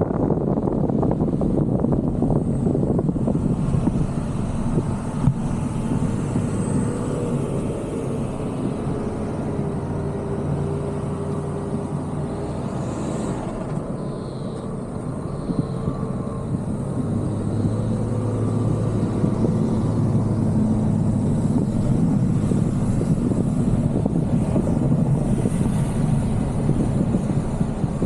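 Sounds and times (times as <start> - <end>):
car tyres rumbling on dirt road: 0.0 - 28.0.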